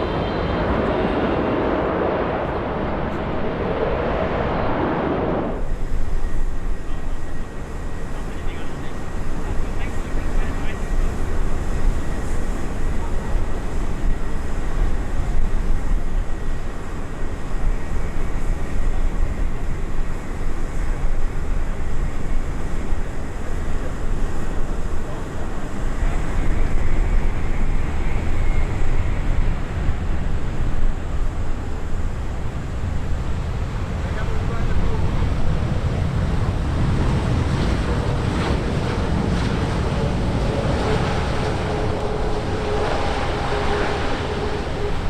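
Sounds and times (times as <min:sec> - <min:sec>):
jet engine rumble: 0:00.0 - 0:45.0.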